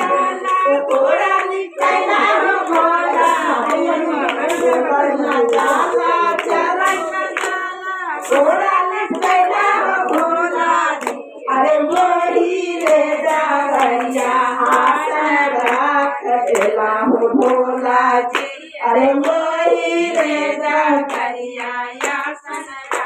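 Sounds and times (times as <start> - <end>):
hand clapping: 0.0 - 23.0
woman singing into a microphone: 0.0 - 23.0
women singing: 0.0 - 23.0.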